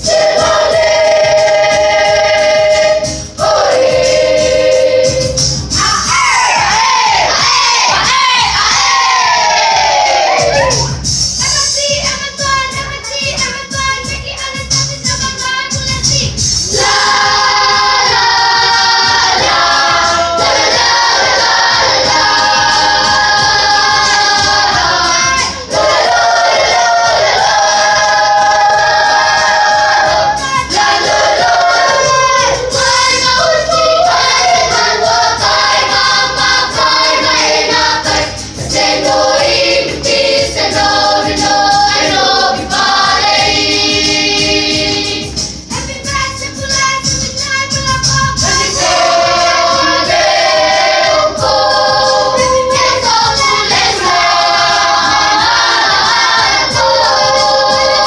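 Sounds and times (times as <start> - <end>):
children's choir singing: 0.0 - 12.9, 16.7 - 58.0.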